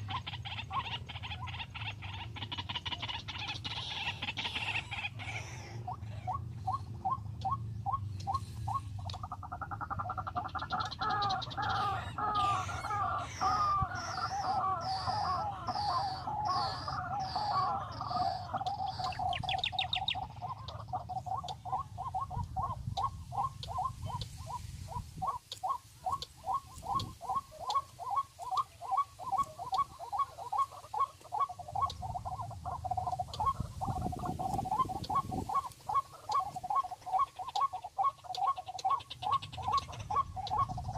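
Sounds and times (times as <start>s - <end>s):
bird warbling call: 0.0s - 40.9s.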